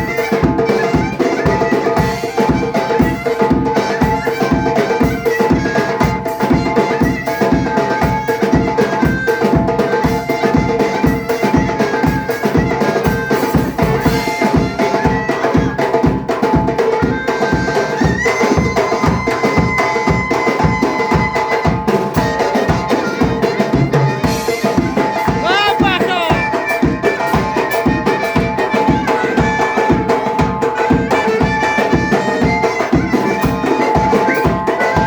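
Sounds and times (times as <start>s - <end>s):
fast even drumming: 0.0s - 35.0s
folk band playing: 0.0s - 35.0s.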